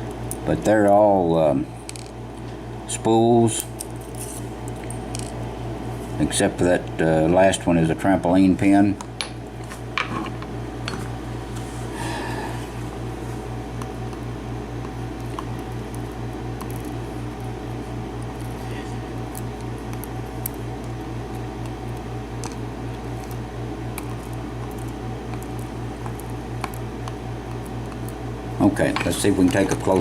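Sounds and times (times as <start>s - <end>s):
low pulsing motor hum: 0.0s - 30.0s.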